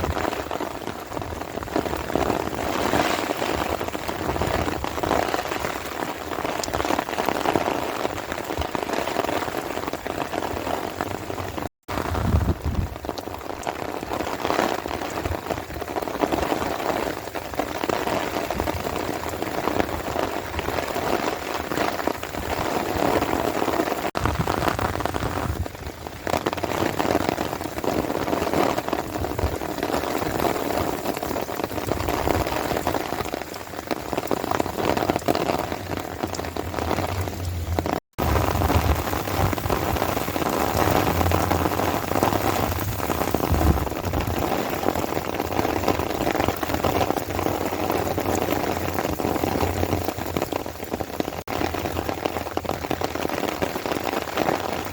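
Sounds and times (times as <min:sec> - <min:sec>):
rain pattering on surfaces: 0:00.0 - 0:54.9.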